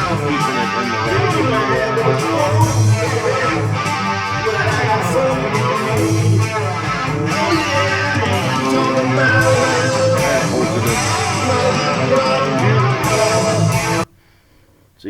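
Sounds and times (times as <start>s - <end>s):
auto-tuned male vocal: 0.0s - 14.0s
guitar-backed song: 0.0s - 14.1s.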